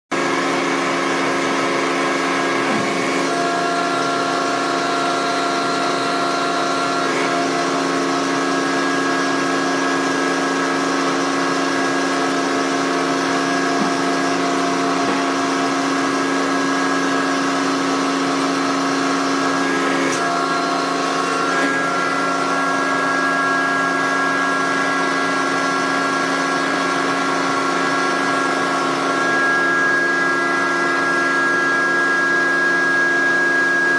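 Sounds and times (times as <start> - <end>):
machine motors and hydraulics humming: 0.1 - 33.9.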